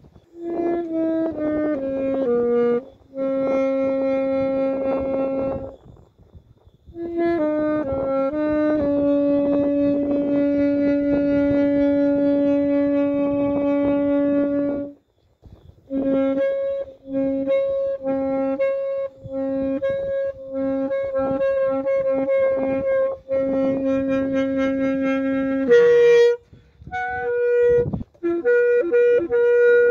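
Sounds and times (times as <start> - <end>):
solo saxophone playing: 0.0 - 29.9.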